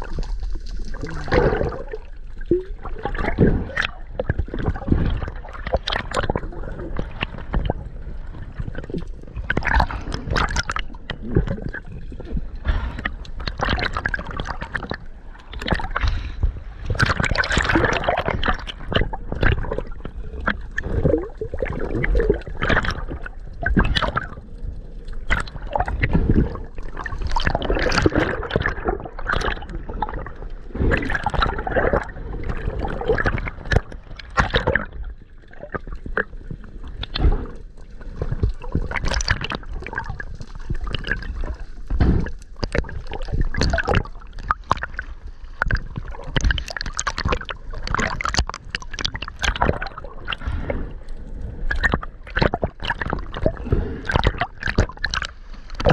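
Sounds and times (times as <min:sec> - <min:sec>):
bubbling bursts: 0:00.0 - 0:55.9
water gurgling and sloshing: 0:00.0 - 0:55.9.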